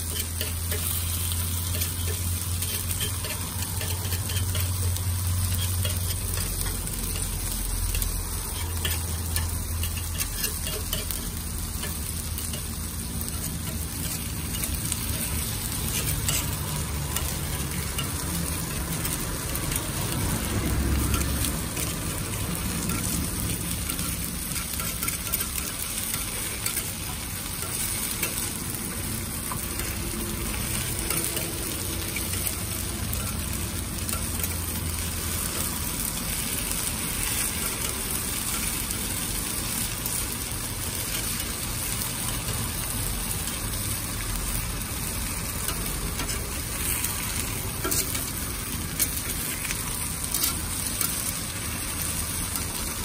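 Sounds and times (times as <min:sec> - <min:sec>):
batter sizzling on griddle: 0:00.0 - 0:53.0.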